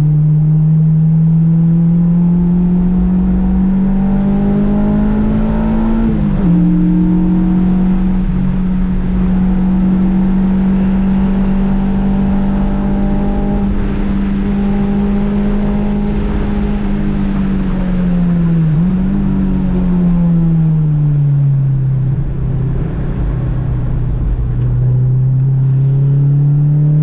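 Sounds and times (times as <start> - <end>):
car engine revving hard: 0.8 - 20.1, 22.1 - 27.0.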